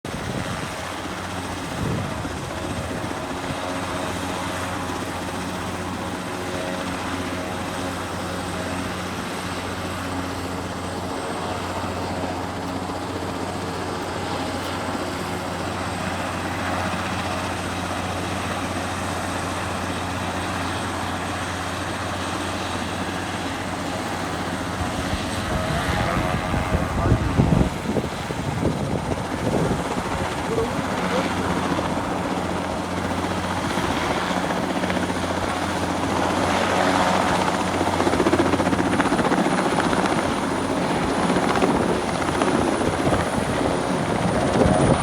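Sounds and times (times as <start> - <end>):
helicopter rotor and engine drone: 0.0 - 45.0.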